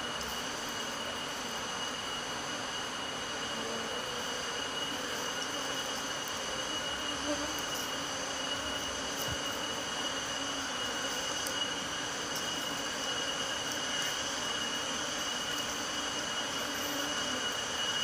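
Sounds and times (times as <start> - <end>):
insect high-pitched whine: 0.0 - 18.0
low insect buzz: 0.0 - 18.0.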